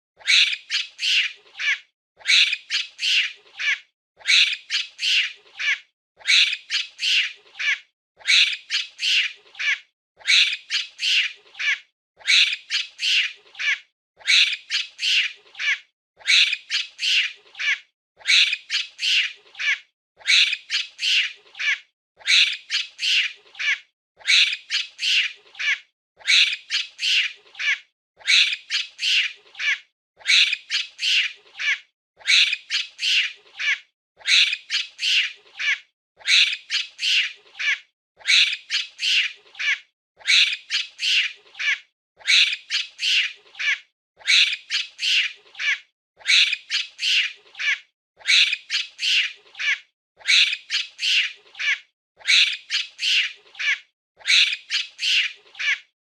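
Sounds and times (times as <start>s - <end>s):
monkey calling: 0.2s - 55.9s.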